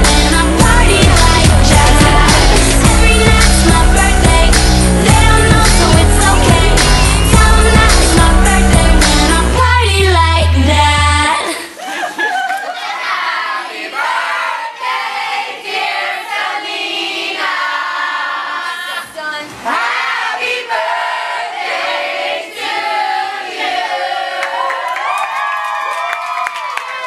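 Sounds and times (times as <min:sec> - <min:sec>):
song with several voices singing: 0:00.0 - 0:11.8, 0:12.8 - 0:24.6.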